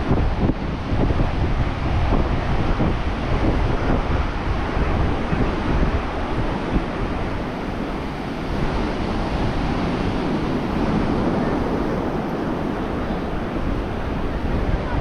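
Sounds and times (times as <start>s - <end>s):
ocean surf washing onto beach: 0.0s - 15.0s
wind buffeting microphone: 0.0s - 15.0s.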